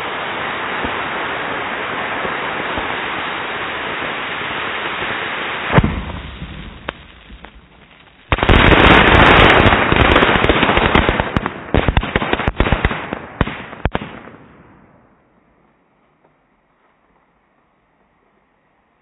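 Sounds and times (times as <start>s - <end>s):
firework burst with pops and cracks: 0.0s - 18.9s.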